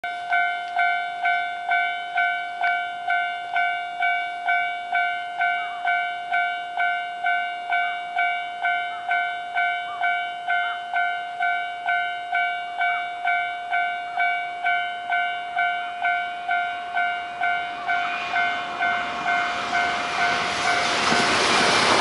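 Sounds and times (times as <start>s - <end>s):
level crossing bell ringing: 0.2s - 20.0s.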